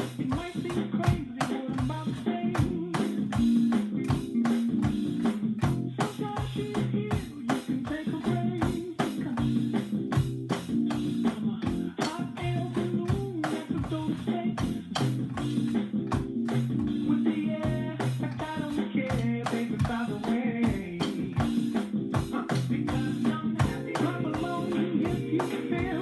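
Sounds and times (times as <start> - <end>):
backing track with guitar: 0.0 - 26.0
electronic drum kit beat: 0.0 - 26.0.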